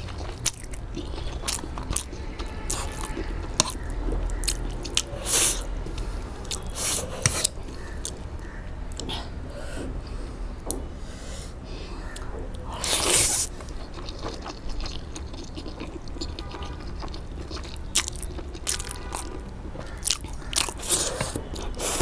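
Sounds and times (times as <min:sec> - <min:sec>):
biting and chewing crunches: 0:00.0 - 0:09.2, 0:12.0 - 0:22.0.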